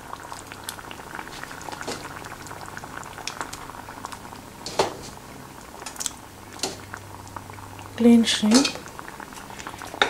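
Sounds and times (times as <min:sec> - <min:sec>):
sauce boiling with bubbling pops: 0:00.0 - 0:10.0.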